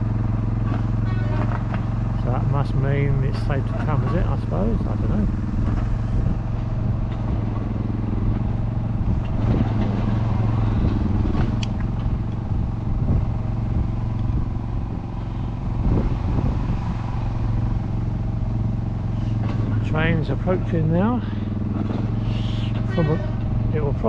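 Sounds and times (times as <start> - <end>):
diesel train engine droning: 0.0 - 24.0.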